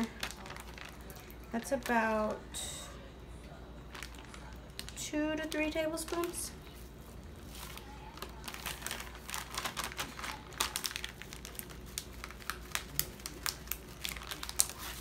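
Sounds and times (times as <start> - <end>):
plastic bag crinkling: 0.0 - 2.4, 3.8 - 15.0.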